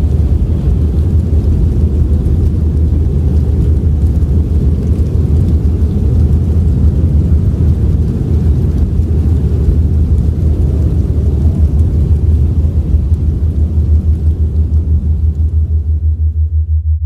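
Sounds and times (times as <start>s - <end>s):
howling blizzard wind: 0.0s - 16.6s.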